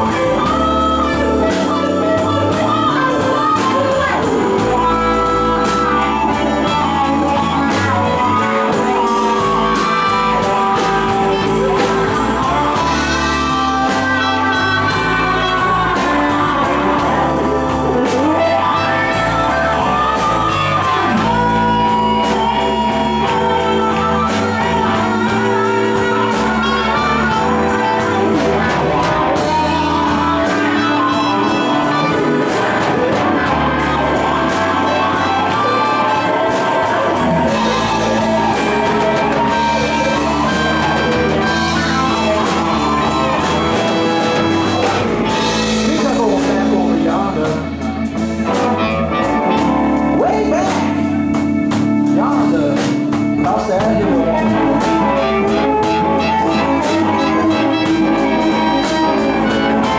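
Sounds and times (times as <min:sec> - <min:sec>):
harmonica bending notes: 0:00.0 - 0:59.9
live blues band playing: 0:00.0 - 0:59.9.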